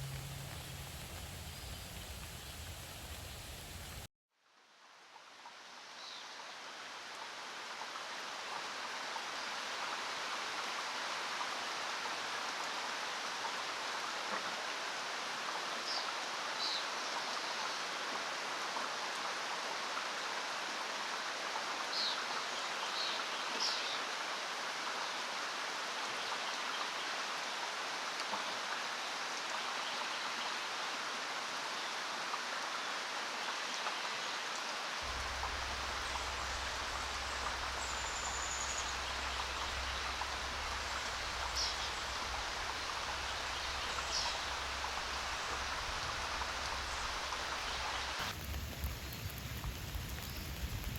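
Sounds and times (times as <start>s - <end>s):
steady rain falling: 0.0s - 4.1s, 4.8s - 50.9s.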